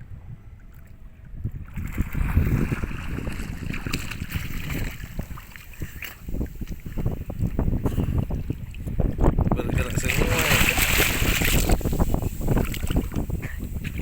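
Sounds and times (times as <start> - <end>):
boat moving through water: 0.0 - 14.0.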